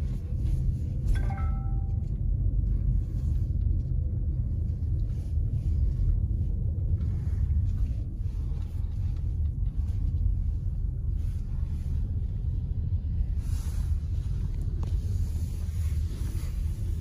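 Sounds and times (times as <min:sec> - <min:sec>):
road and engine rumble in car: 0:00.0 - 0:17.0.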